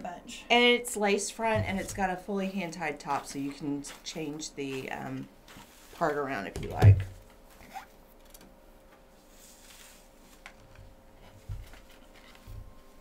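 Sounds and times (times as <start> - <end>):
faint steady hum: 0.0 - 13.0
rustling handling noises: 1.5 - 13.0.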